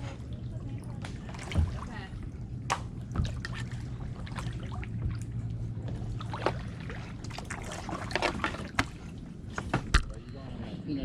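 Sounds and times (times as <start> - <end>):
paddle splashing water: 0.0 - 10.0
steady low hum: 0.0 - 11.0.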